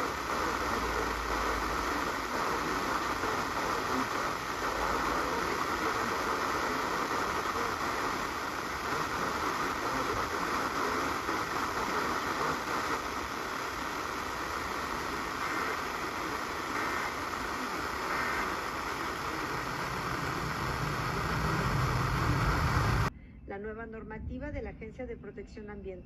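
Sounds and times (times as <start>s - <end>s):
radio static hiss: 0.0s - 23.1s.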